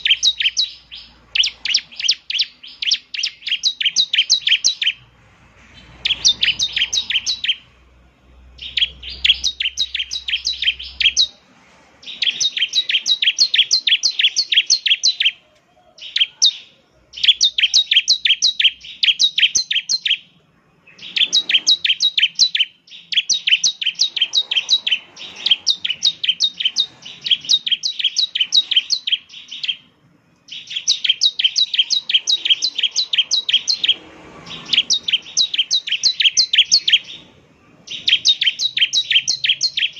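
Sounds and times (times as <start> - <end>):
bird singing rapid sharp chips: 0.0 - 15.4, 16.0 - 39.9.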